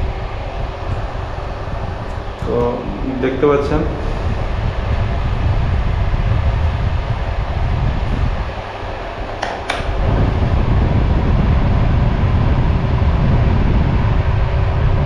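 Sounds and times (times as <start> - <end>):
faint motor hum: 0.0 - 15.0
fan heater blowing air: 0.0 - 15.0.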